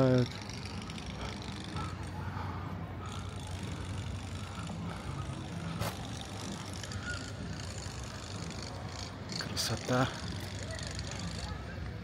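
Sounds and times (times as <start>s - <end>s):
distant machinery drone: 0.0s - 12.0s.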